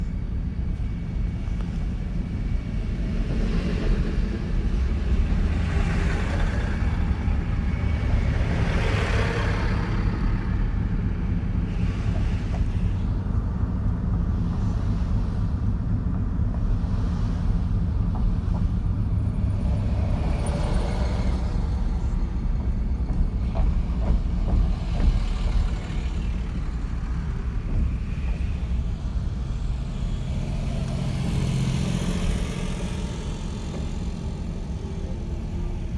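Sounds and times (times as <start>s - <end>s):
passing road traffic: 0.0s - 35.9s
vehicle engine rumble: 0.0s - 35.9s.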